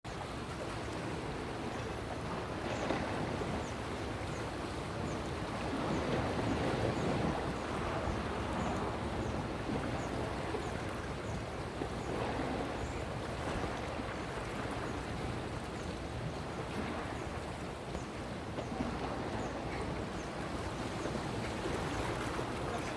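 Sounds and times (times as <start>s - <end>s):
rushing water: 0.0s - 22.9s.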